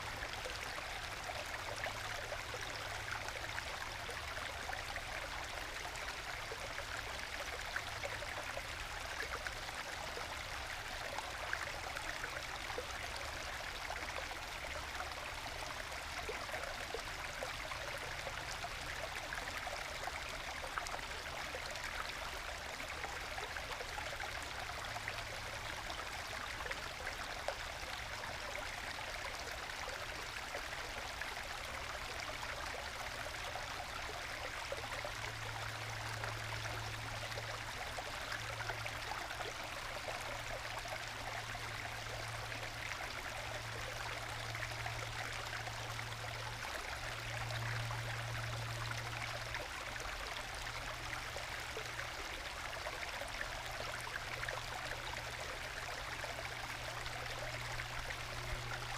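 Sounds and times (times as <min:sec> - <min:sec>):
stream trickling and gurgling: 0:00.0 - 0:58.9.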